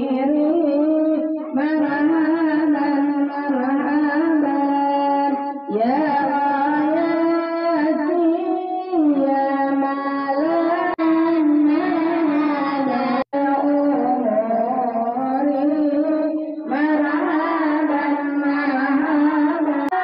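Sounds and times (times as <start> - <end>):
devotional singing: 0.0 - 20.0.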